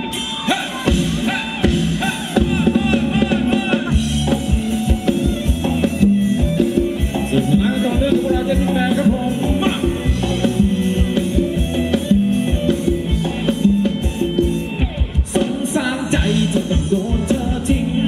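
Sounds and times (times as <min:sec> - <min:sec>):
live band dance music: 0:00.0 - 0:18.0
steady drum beat: 0:00.0 - 0:18.0.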